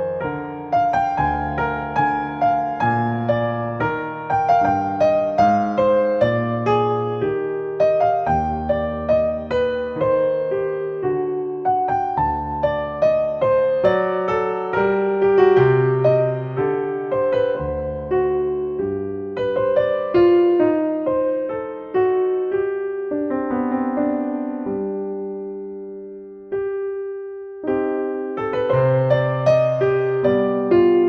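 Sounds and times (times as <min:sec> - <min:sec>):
slow gentle piano: 0:00.0 - 0:31.0.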